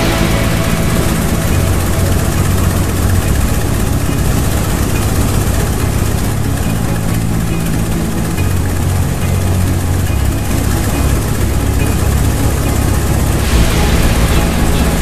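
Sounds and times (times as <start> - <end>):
aircraft piston engine running: 0.0 - 15.0.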